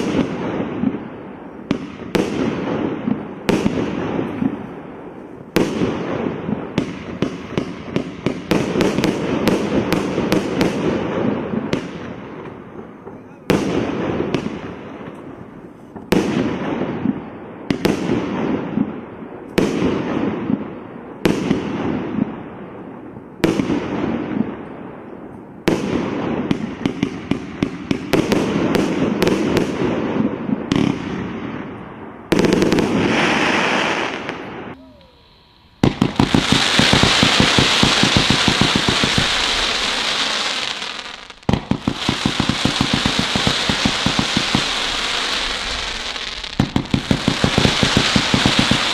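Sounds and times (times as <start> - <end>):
firework bangs: 0.0 - 48.9
rapid-fire fireworks crackle: 0.0 - 48.9.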